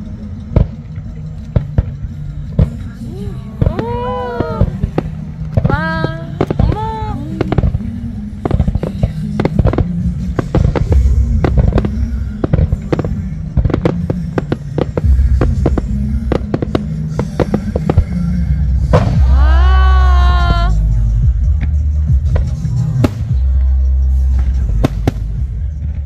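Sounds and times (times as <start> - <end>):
fireworks bangs and crackles: 0.0 - 26.0
loud music with deep bass: 0.0 - 26.0.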